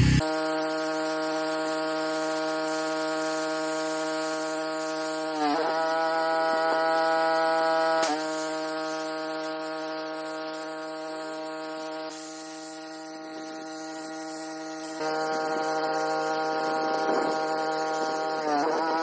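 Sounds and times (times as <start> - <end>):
spray pump motor humming: 0.0 - 19.0.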